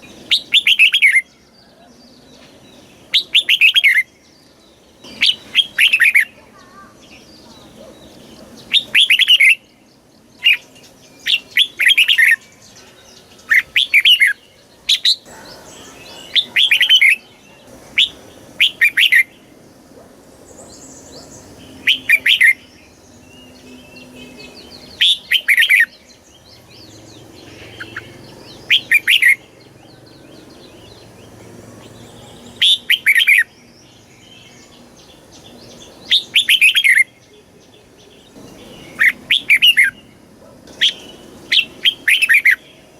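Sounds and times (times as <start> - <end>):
bird singing short phrases: 0.0 - 19.5, 20.5 - 42.9.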